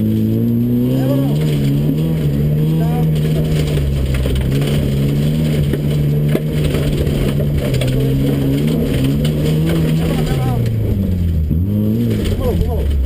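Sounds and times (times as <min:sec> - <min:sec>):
car engine revving hard: 0:00.0 - 0:13.0
stones and mud hitting car: 0:00.3 - 0:13.0.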